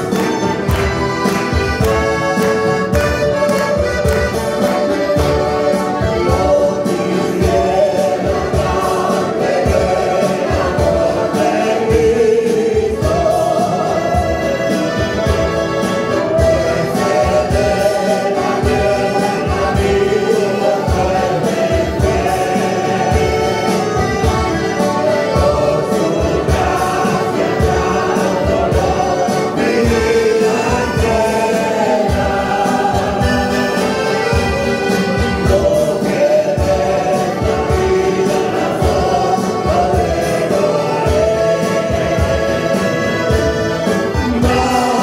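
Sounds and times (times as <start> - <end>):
accordion: 0.0 - 45.0
choir singing a hymn: 0.0 - 45.0
strummed acoustic guitars: 0.0 - 45.0.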